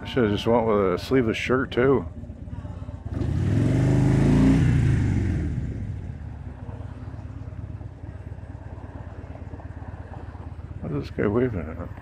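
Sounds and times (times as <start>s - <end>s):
motorcycle engine accelerating: 1.4s - 12.0s.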